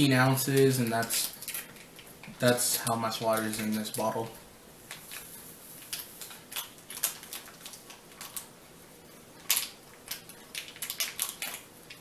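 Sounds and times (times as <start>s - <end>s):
plastic packet crinkling: 0.0s - 8.5s, 9.4s - 12.0s.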